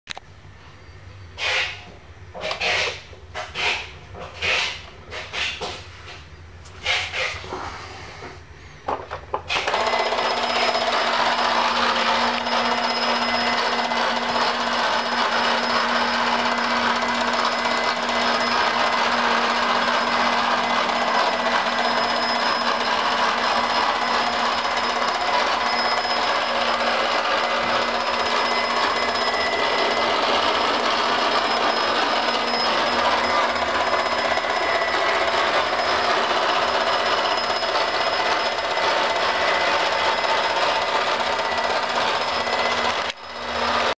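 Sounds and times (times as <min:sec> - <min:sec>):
rapid mechanical rattle with hum: 0:01.4 - 0:43.9.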